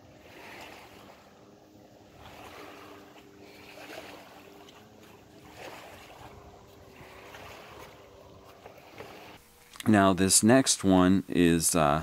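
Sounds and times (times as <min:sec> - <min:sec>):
small waves lapping: 0:00.0 - 0:09.8
faint steady hum: 0:00.0 - 0:12.0.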